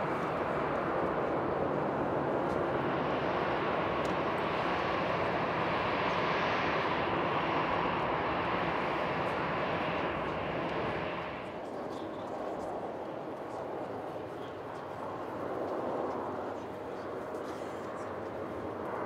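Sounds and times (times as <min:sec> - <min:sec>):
jet engines taxiing: 0:00.0 - 0:19.0.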